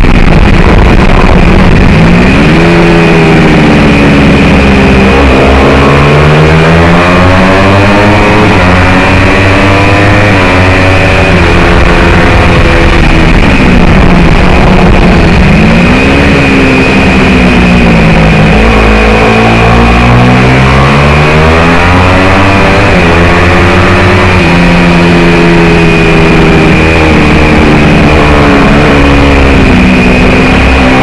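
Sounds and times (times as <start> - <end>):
motorcycle engine revving: 0.0 - 31.0
rushing wind noise: 0.0 - 31.0.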